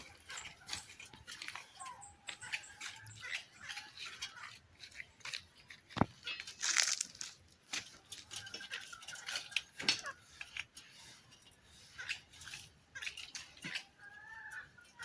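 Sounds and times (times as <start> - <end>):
tearing rustle: 0.0 - 13.9
rustling and tapping of materials: 0.0 - 15.0.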